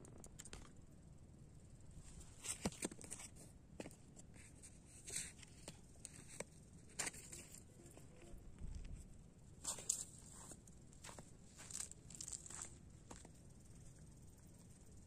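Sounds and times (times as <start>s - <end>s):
faint crackles and rustles: 1.7s - 15.0s.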